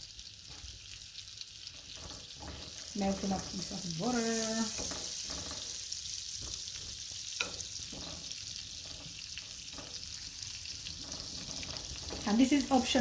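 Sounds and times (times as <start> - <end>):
butter sizzling in a frying pan: 0.0 - 13.0
utensil scraping a pan: 1.6 - 13.0.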